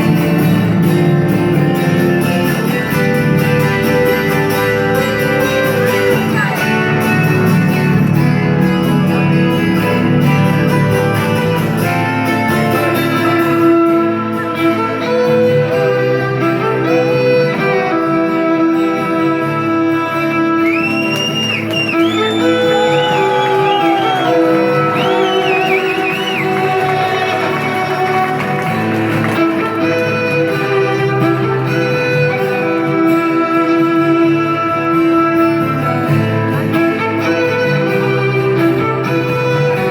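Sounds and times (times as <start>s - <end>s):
guitar playing: 0.0s - 39.9s
violin with sliding high notes: 0.0s - 39.9s.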